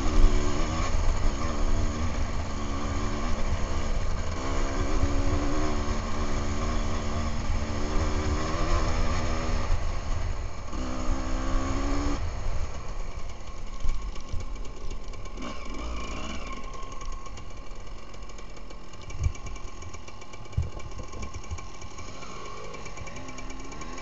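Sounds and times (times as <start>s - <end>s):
dirt bike engine: 0.0s - 24.0s.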